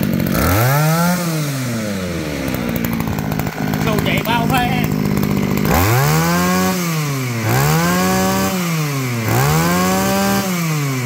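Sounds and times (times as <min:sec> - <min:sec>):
brush cutter engine revving: 0:00.0 - 0:11.0.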